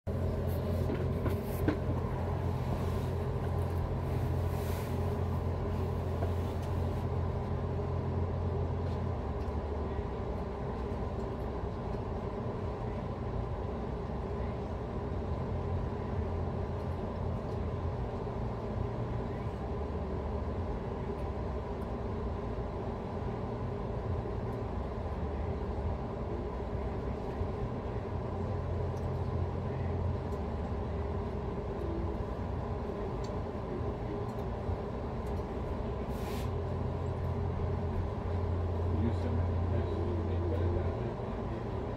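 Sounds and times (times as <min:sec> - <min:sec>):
steady low rumble: 0:00.0 - 0:41.9.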